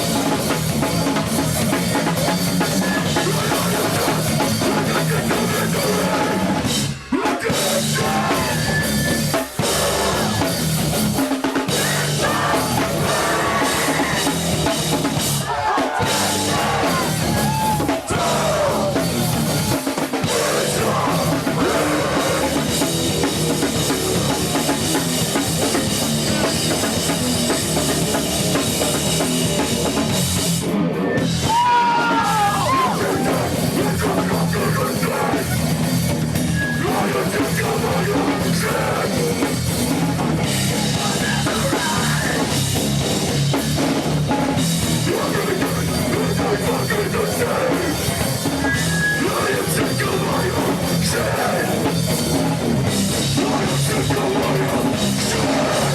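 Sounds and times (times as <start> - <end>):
live heavy rock band: 0.0 - 55.9
pounding drum kit: 0.0 - 55.9.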